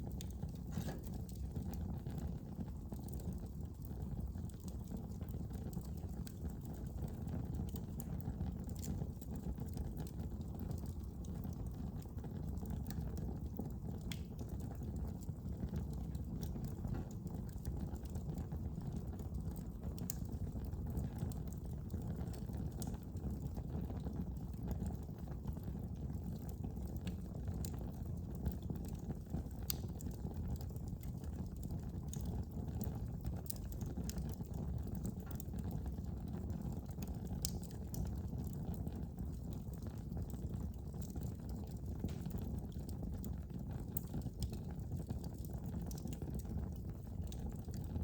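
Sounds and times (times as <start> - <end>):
fire crackling in a fireplace: 0.0 - 48.0.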